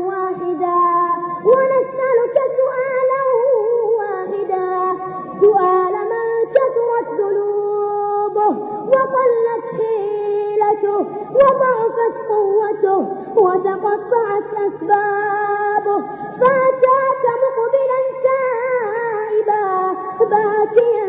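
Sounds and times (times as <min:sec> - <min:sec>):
high voice chanting: 0:00.0 - 0:21.0.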